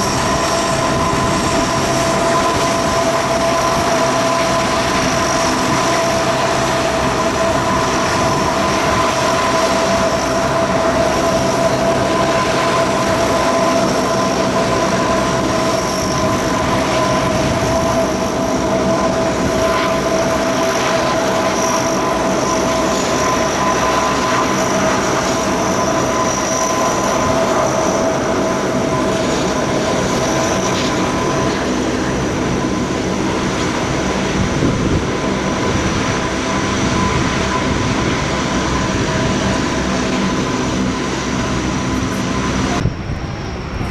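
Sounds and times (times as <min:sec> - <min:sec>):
turboprop engines droning: 0:00.0 - 0:43.9.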